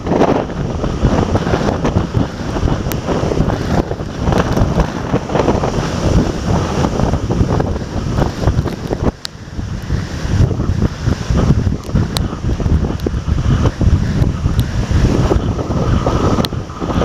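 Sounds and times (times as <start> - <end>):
heavy surf breaking: 0.0 - 17.0
strong wind buffeting microphone: 0.0 - 17.0.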